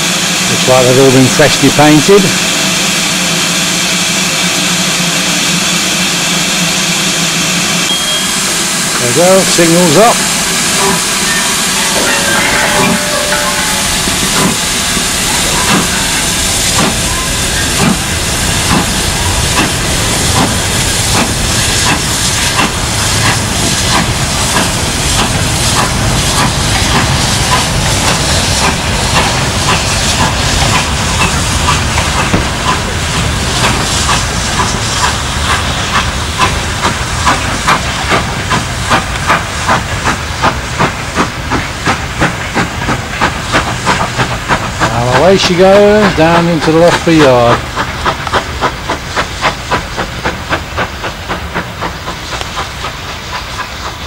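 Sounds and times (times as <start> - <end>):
loud steam hiss: 0.0 - 54.0
steam locomotive exhaust chuffs: 0.0 - 54.0.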